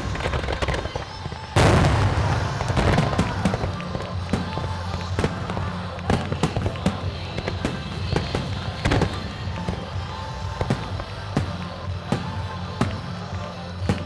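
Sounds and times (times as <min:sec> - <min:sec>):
fireworks bursting: 0:00.0 - 0:14.0
music with low beat: 0:01.6 - 0:14.0.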